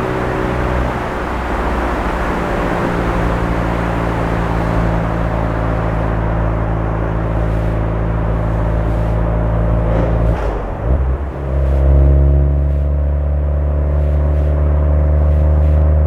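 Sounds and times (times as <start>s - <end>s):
car engine at steady revs: 0.0s - 16.0s
road noise: 0.0s - 16.0s.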